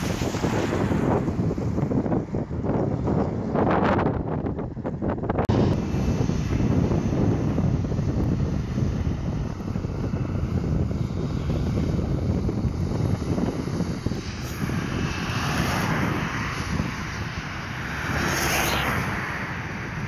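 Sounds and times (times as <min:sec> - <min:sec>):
jet engines roaring: 0:00.0 - 0:02.6, 0:05.5 - 0:20.0
wind noise on microphone: 0:00.0 - 0:20.0.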